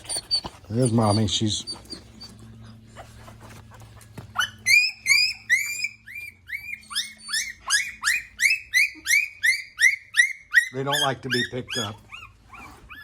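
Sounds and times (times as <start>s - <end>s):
puppy crying in high squeals: 0.0s - 2.4s, 4.4s - 13.0s.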